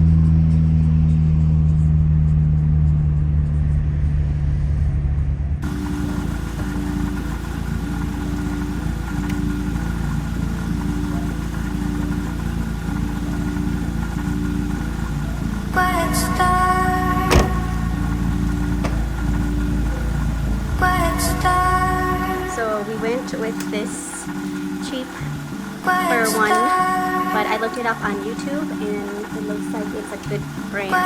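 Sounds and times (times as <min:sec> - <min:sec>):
vehicle rumble: 0:00.0 - 0:31.0.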